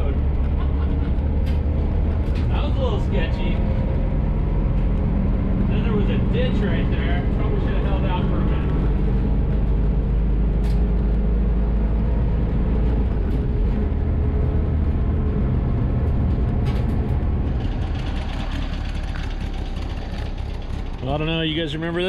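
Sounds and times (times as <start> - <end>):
road and wind noise: 0.0 - 22.0
vehicle engine running: 0.0 - 22.0.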